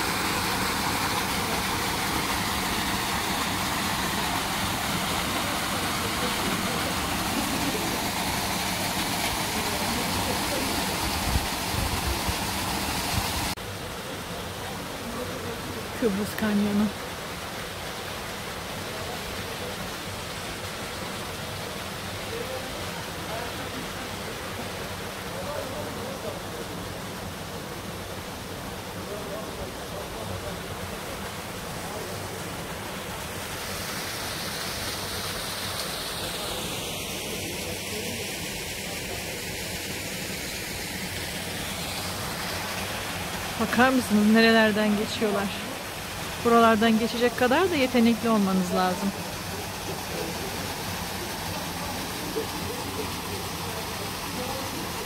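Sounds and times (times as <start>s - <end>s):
waterfall pouring into pool: 0.0s - 16.1s, 16.7s - 55.0s
shallow stream flowing: 0.0s - 55.0s.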